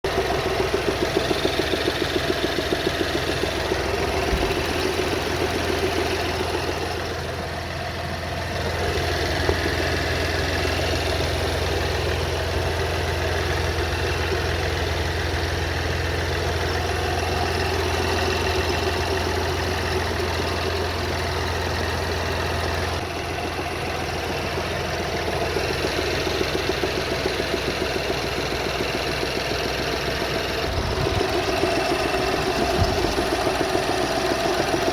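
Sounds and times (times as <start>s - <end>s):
car engine idling: 0.0s - 34.9s
engine knocking: 0.0s - 34.9s.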